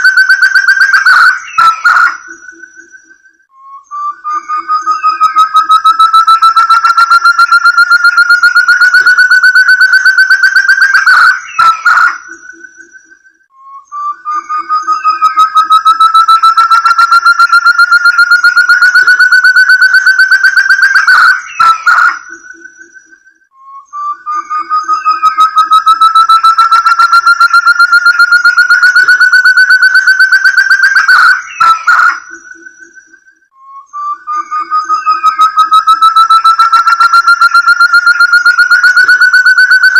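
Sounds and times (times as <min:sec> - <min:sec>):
partridge whistled calls: 0:00.0 - 0:13.2, 0:13.8 - 0:39.9.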